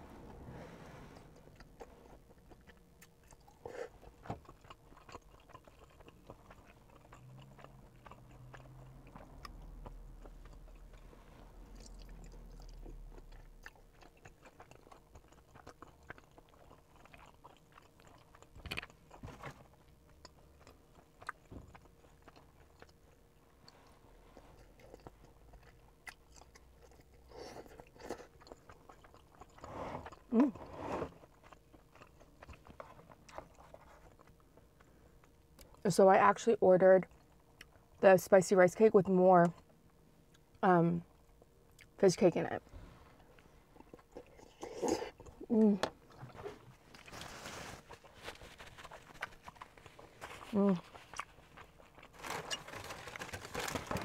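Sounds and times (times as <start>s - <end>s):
close chewing: 1.1s - 35.9s, 43.1s - 54.0s.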